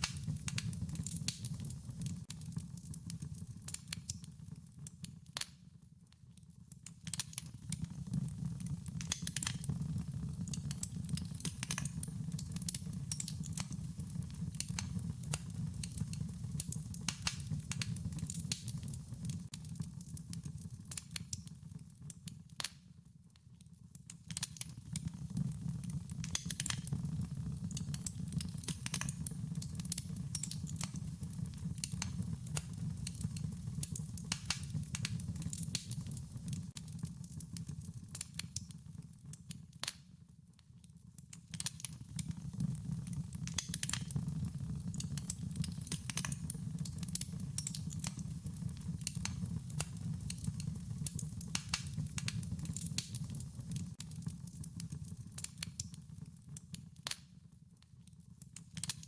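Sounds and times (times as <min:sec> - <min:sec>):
low rumble of burning: 0:00.0 - 0:05.5, 0:06.6 - 0:22.2, 0:24.6 - 0:39.4, 0:41.6 - 0:56.7
wood fire pops and snaps: 0:00.0 - 0:05.8, 0:06.6 - 0:23.0, 0:24.0 - 0:40.1, 0:41.2 - 0:57.4, 0:58.4 - 0:59.0.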